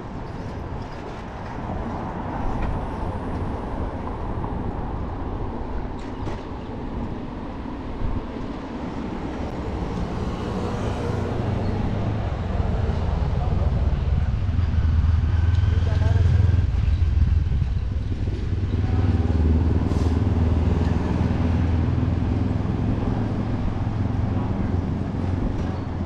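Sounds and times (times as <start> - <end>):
cars passing: 0.0 - 26.0
road noise: 0.0 - 26.0
wind rumble on microphone: 0.0 - 26.0.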